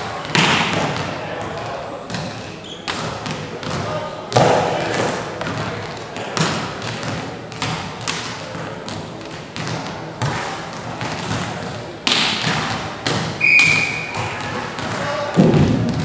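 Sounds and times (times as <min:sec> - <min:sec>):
volleyballs thudding in a hall: 0:00.0 - 0:16.0.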